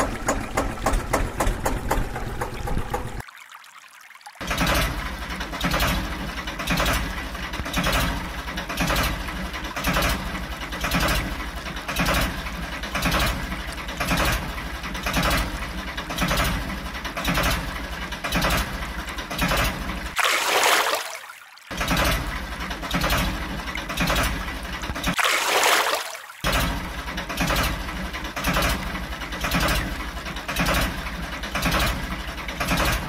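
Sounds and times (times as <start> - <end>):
tractor engine chugging: 0.0 - 3.2, 4.4 - 20.2, 21.7 - 25.2, 26.5 - 33.0.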